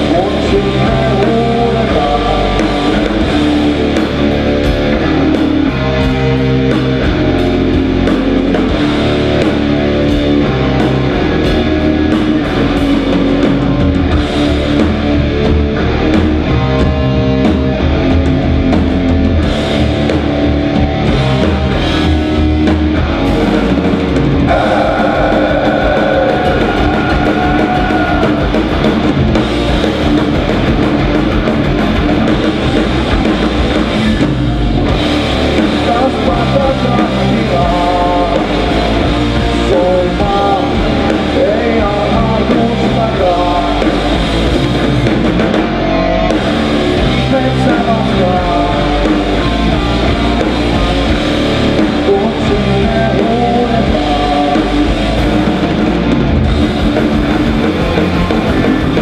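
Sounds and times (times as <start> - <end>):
heavy metal band playing: 0.0 - 59.0
lead guitar melody: 0.0 - 59.0.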